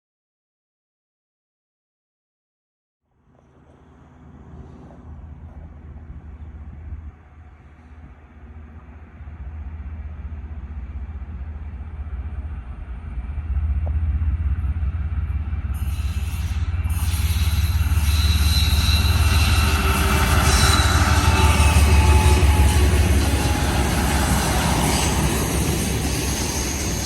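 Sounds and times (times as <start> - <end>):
diesel locomotive engine rumble: 3.2 - 27.0
wheels hissing on rails: 3.3 - 27.0.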